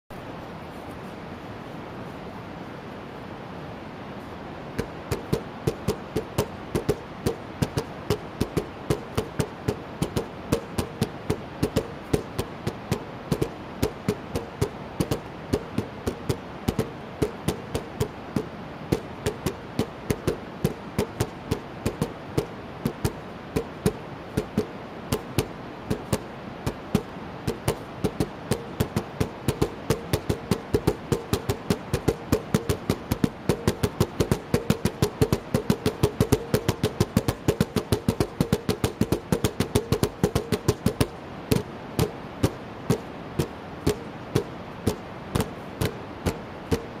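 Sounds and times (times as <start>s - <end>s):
nunchaku knocking on plastic buckets: 5.1s - 47.0s.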